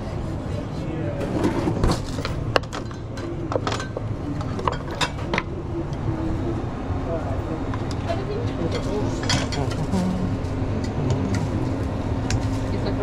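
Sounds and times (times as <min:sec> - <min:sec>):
steady low rumble: 0:02.4 - 0:13.0.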